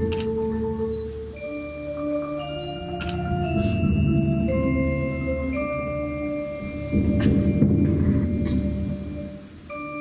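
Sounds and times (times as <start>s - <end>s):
marimba ringing notes: 0.0s - 10.0s.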